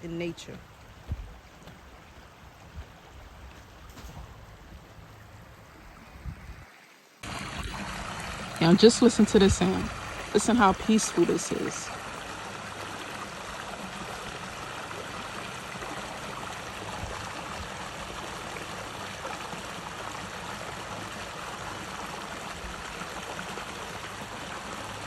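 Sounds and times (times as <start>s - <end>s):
stream of water running: 0.0s - 25.0s.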